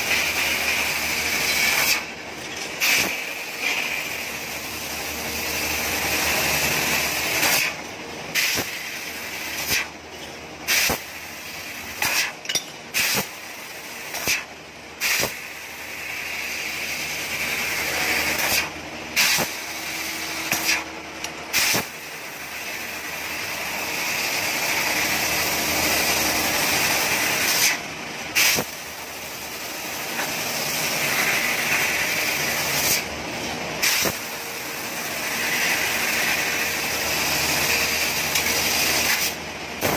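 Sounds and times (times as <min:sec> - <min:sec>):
laser cutter gas hissing: 0:00.0 - 0:02.2, 0:02.8 - 0:10.0, 0:10.6 - 0:33.1, 0:33.8 - 0:39.9.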